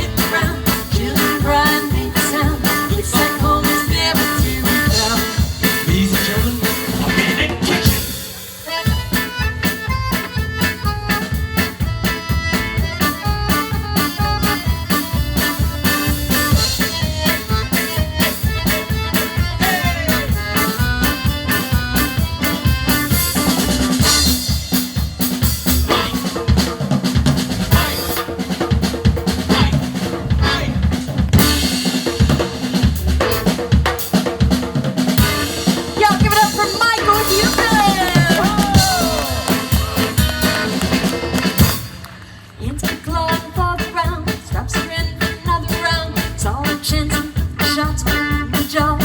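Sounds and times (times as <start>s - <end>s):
accordion solo: 0.0s - 26.8s, 27.5s - 34.1s, 35.2s - 42.2s
drum kit beat: 0.0s - 49.0s.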